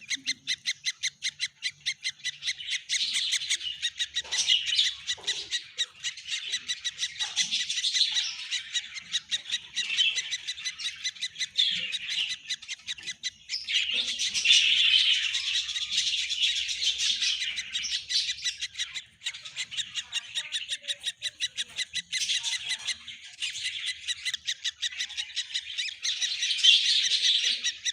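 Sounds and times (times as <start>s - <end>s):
baby birds chirping: 0.0s - 27.9s.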